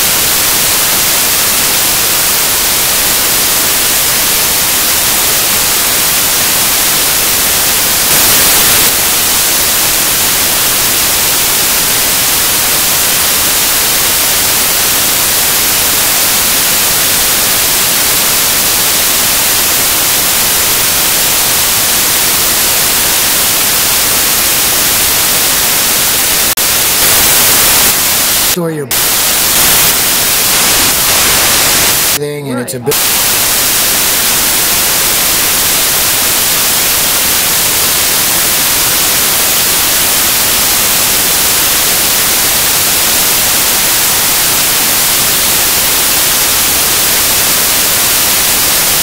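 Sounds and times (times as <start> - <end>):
static hiss: 0.0 - 32.3, 32.9 - 49.0.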